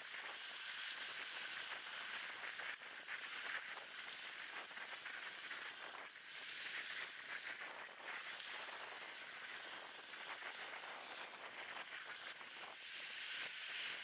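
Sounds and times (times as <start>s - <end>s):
waves washing onto beach: 0.0s - 14.0s
wind on microphone: 0.0s - 14.0s.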